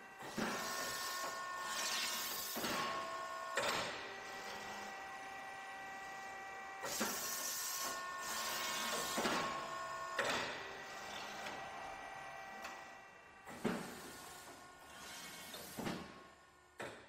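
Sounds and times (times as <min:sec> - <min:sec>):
machine motor whine: 0:00.0 - 0:16.8.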